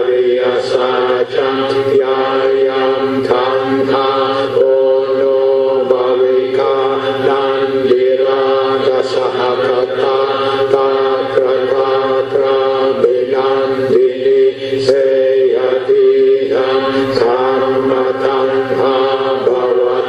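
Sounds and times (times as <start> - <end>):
monotone chanting: 0.0 - 20.0.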